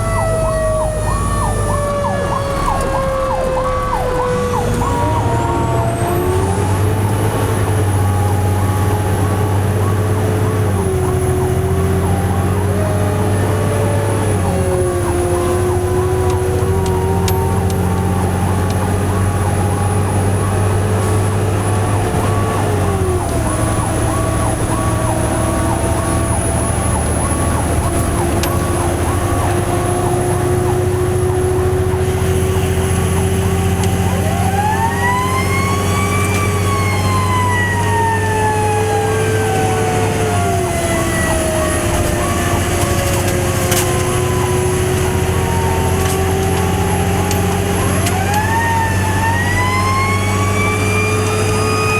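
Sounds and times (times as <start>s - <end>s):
electronic siren cycling: 0.0s - 51.9s
fire truck engine droning: 0.0s - 51.9s
mechanical siren wailing: 0.0s - 51.9s.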